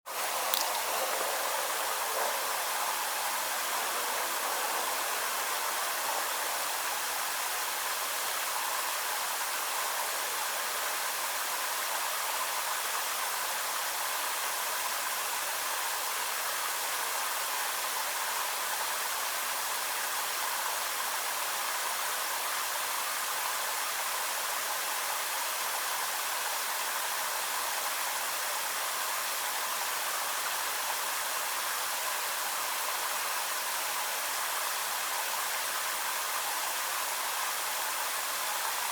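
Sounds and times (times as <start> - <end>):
steady hiss: 0.1 - 38.9.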